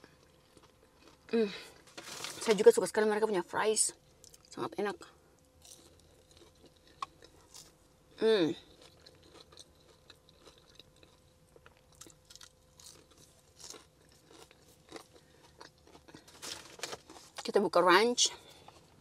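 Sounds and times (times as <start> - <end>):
chewing and crunching fries: 0.0 - 2.6, 3.9 - 17.7, 18.3 - 19.0.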